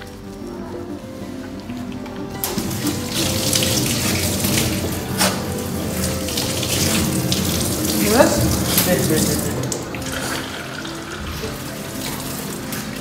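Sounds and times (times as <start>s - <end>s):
background music: 0.0s - 13.0s
water running: 0.0s - 13.0s.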